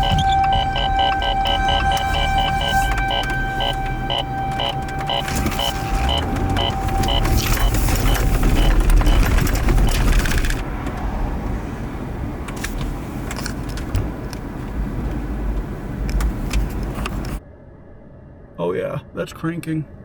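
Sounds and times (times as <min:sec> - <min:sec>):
sharp clicks and rattles: 0:00.0 - 0:17.4
vehicle road and wind noise: 0:00.0 - 0:17.4.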